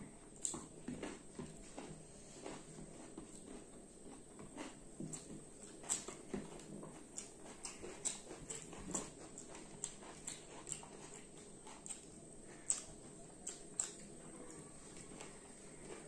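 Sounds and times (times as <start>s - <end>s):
chewing and mouth smacks: 0.4s - 16.0s.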